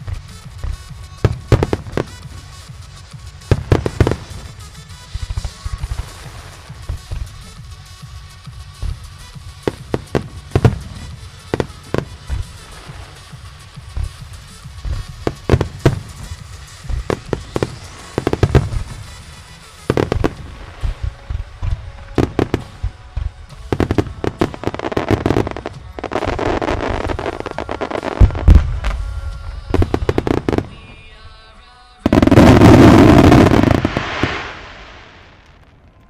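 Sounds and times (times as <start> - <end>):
music playing: 0.0 - 35.5
fireworks crackling: 0.0 - 36.0.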